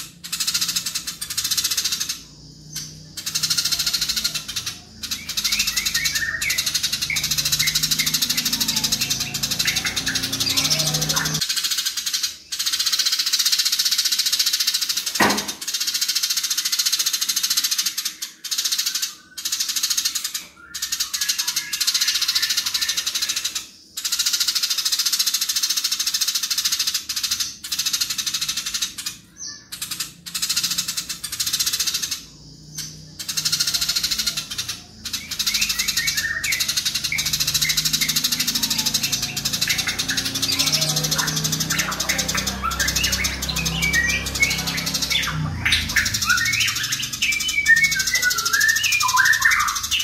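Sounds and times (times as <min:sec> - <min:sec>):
sparrow chattering: 0:00.0 - 0:50.0.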